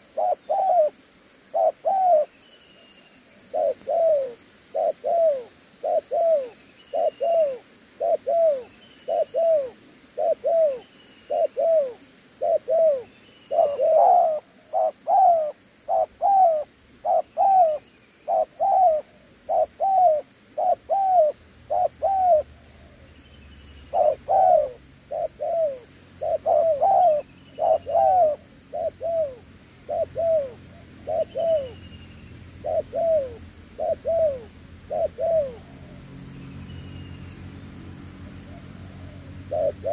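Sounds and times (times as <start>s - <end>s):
dove cooing: 0.0s - 2.3s, 3.3s - 23.1s, 23.9s - 31.8s, 32.6s - 36.1s, 38.5s - 39.9s.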